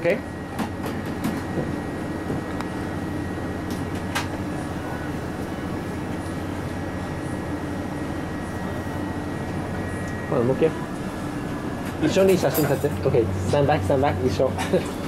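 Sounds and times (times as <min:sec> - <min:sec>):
kitchen extraction hood drone: 0:00.0 - 0:15.0.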